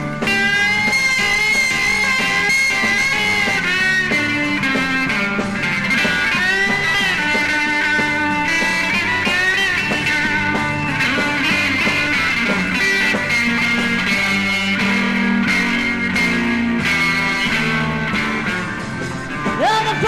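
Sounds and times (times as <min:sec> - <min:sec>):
electric guitar lead notes: 0:00.0 - 0:20.0
psychedelic rock band playing: 0:00.0 - 0:20.0.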